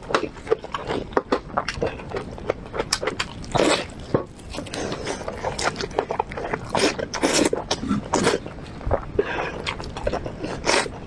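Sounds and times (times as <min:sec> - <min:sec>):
chewing and wet mouth smacking: 0:00.0 - 0:11.0
wet slurp: 0:00.2 - 0:11.0.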